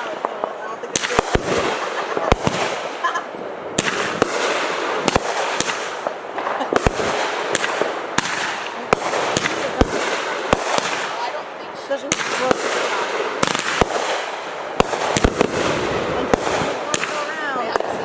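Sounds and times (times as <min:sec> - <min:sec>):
fireworks bangs: 0:00.0 - 0:18.0
fireworks crackling: 0:00.0 - 0:18.0.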